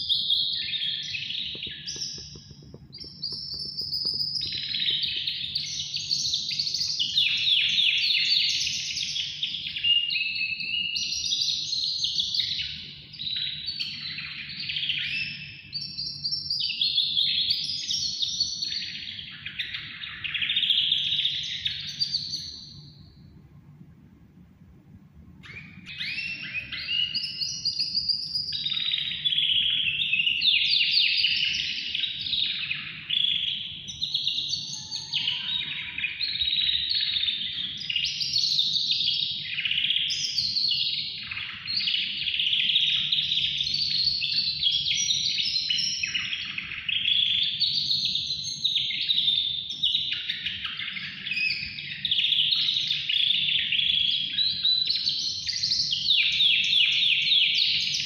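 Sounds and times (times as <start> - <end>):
songbird trilling and warbling: 0.0 - 22.8, 25.4 - 58.0.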